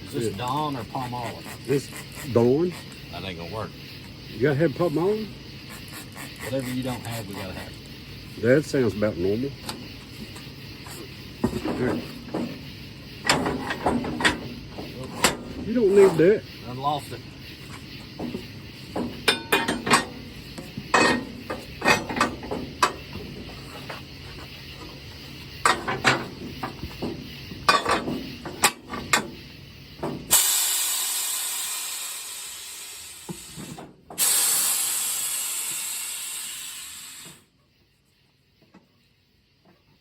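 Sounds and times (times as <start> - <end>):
compressed air hissing: 0.0 - 37.6
tire tools clanking on metal: 4.0 - 37.4.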